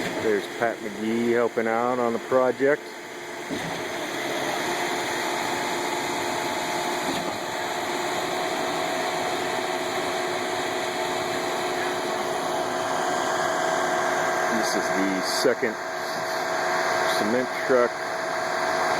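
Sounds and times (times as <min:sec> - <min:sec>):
steady whine: 0:00.0 - 0:18.9
truck engine droning: 0:00.0 - 0:18.9.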